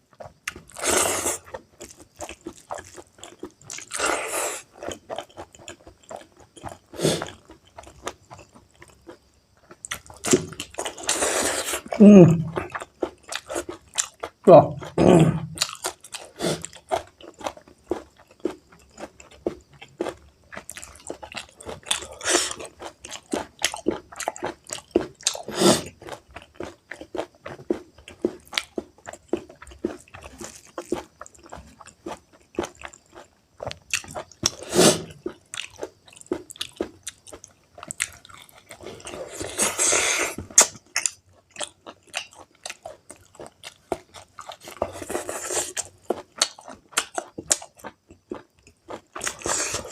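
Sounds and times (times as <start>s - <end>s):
chewing with wet mouth sounds: 0.0s - 49.9s.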